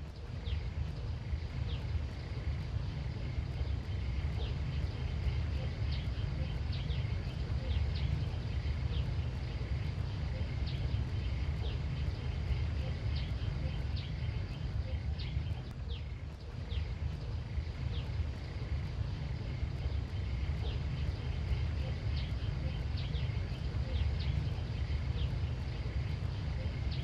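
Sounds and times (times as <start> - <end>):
faint high hum: 0.0 - 27.0
low rumble: 0.0 - 27.0.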